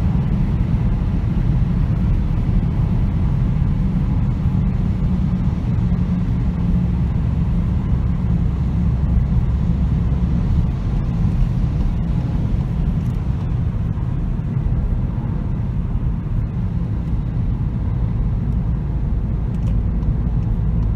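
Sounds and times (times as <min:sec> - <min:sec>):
car cabin engine and tyre rumble: 0:00.0 - 0:20.9.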